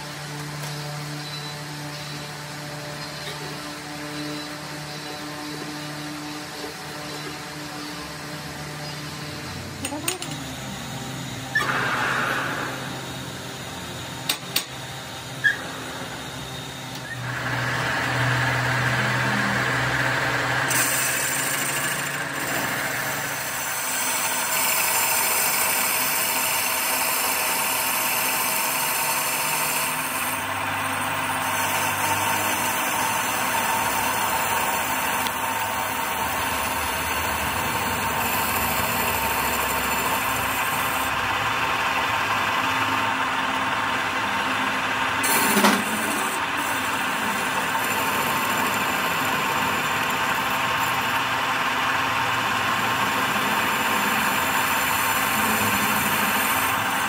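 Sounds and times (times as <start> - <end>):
metal lathe running: 0.0 - 57.0.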